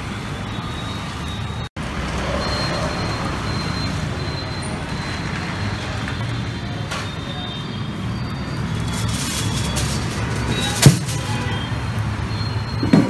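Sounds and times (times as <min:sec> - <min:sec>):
street traffic din: 0:00.0 - 0:13.0.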